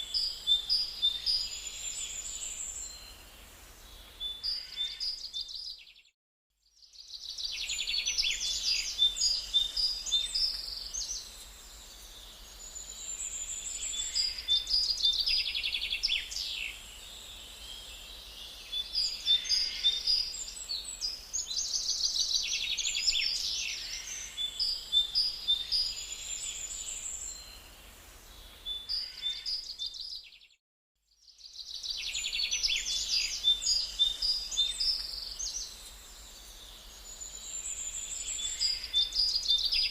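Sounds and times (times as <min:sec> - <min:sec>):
songbirds singing: 0:00.0 - 0:06.1, 0:06.7 - 0:39.9.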